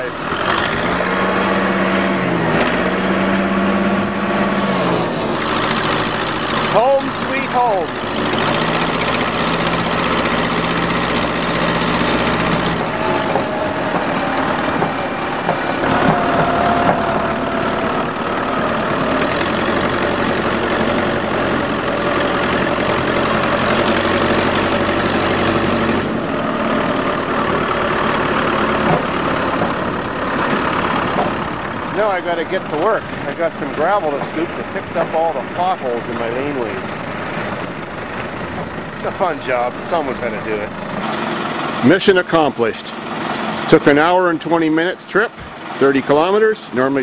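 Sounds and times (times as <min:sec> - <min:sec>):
tractor engine running: 0:00.0 - 0:47.0.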